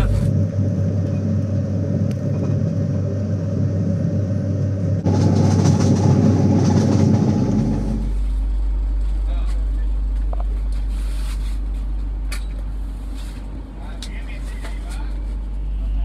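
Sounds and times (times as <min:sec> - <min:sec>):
train running inside carriage: 0:00.0 - 0:16.0.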